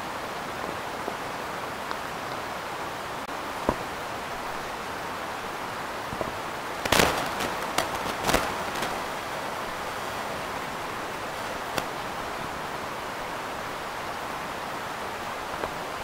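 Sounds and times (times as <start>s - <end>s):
steady microphone hiss: 0.0s - 16.0s.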